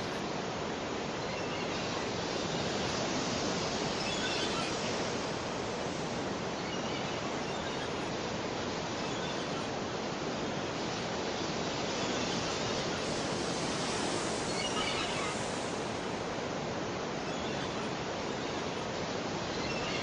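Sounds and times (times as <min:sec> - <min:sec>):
ocean surf rushing: 0:00.0 - 0:20.0.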